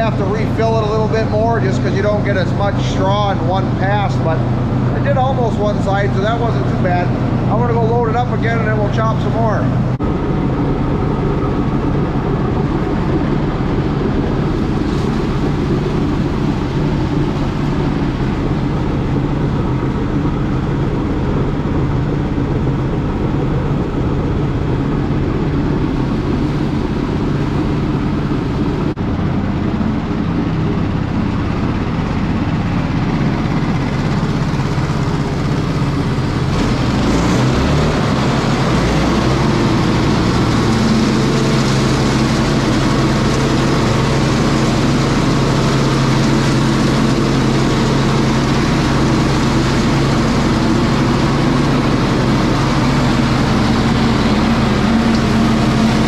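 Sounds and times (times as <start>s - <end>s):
small engine and rotor humming: 0.0s - 56.0s.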